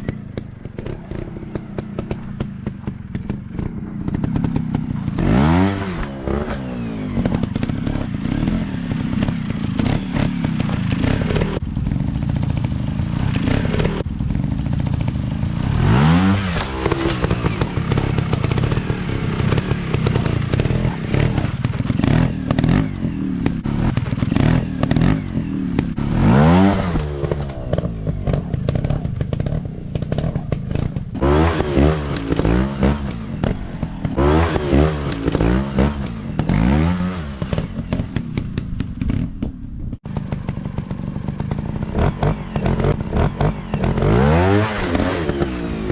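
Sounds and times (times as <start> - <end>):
bikes clattering over rough ground: 0.0 - 45.9
dirt bike engines revving: 0.0 - 45.9.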